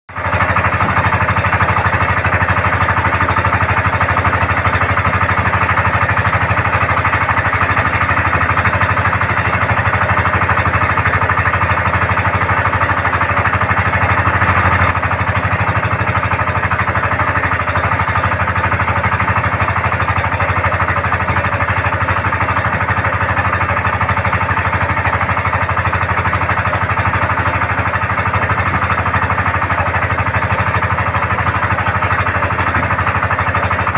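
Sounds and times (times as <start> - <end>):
boat engine chugging: 0.1 - 33.9.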